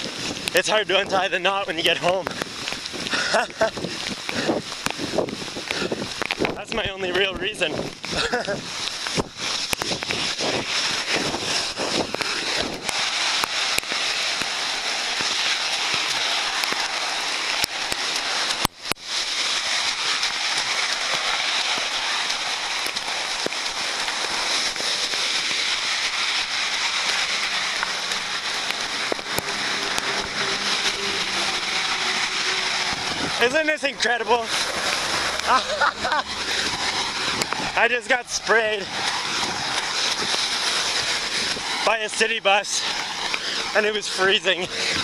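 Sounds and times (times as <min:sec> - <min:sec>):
heavy rain close to microphone: 0:00.0 - 0:45.0
raindrops ticking: 0:00.0 - 0:45.0.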